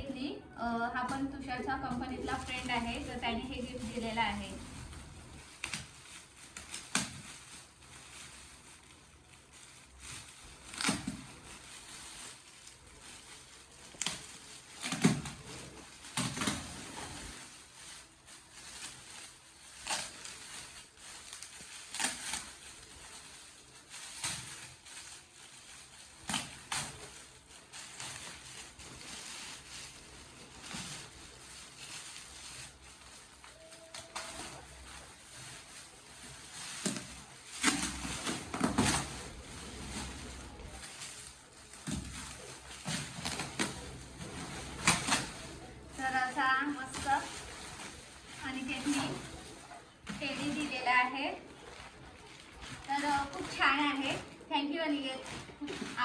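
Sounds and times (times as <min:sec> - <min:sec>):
wrapping paper crackling: 0:00.4 - 0:56.0
paper ripping: 0:01.9 - 0:50.9.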